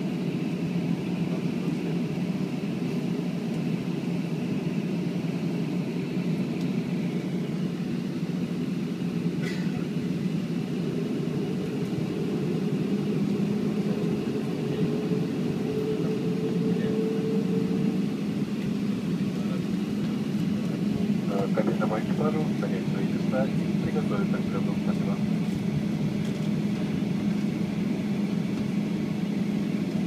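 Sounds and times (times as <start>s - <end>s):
airplane engines humming: 0.0s - 30.0s.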